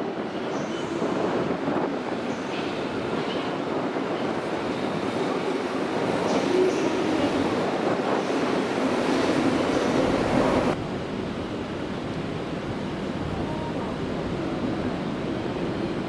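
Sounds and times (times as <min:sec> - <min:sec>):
electric train passing: 0:00.5 - 0:16.0.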